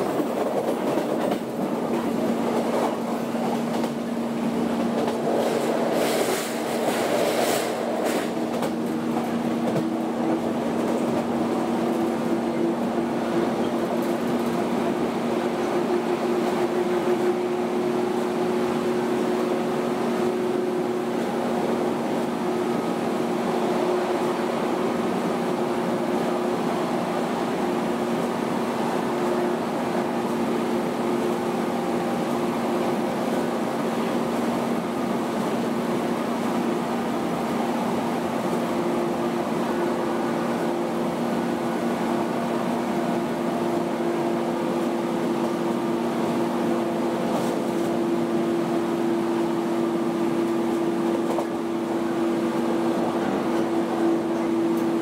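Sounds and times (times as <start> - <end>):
rail and running noise: 0.0 - 55.0.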